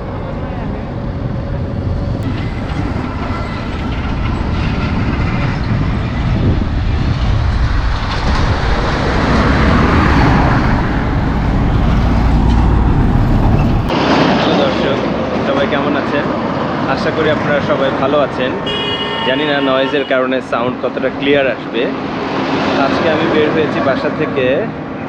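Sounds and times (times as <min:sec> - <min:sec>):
vehicles passing with low rumble: 0:00.0 - 0:25.0.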